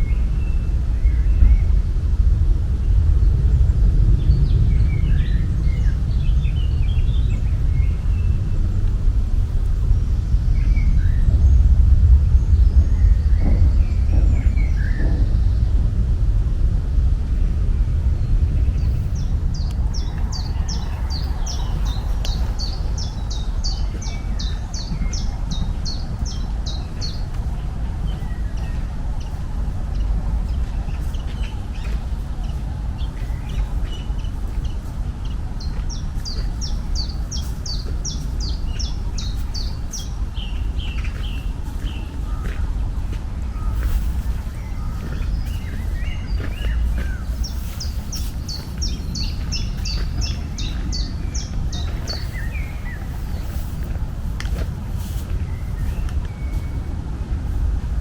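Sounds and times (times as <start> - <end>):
low outdoor rumble: 0.0 - 58.0
songbird chirping: 0.0 - 58.0.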